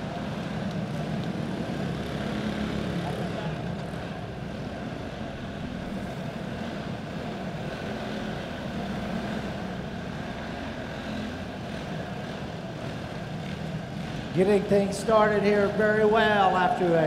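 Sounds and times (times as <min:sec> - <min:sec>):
go-kart engines droning: 0:00.0 - 0:17.0.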